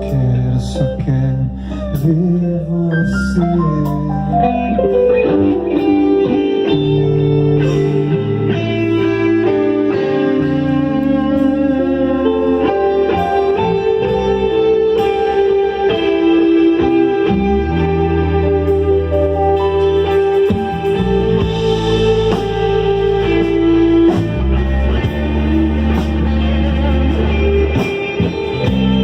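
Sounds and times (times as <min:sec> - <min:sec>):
bass: 0:00.0 - 0:29.0
electric guitar melody: 0:00.0 - 0:29.0
keyboard: 0:00.0 - 0:29.0.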